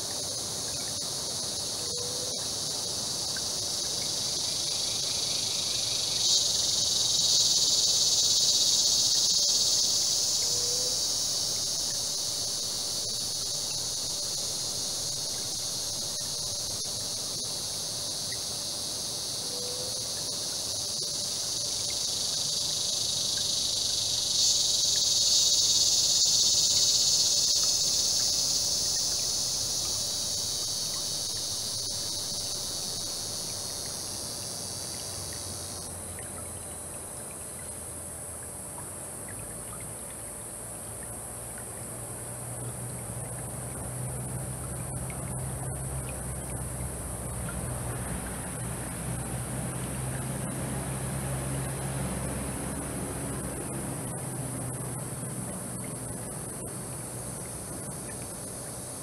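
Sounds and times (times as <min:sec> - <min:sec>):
insects droning chorus: 0:00.0 - 0:59.0.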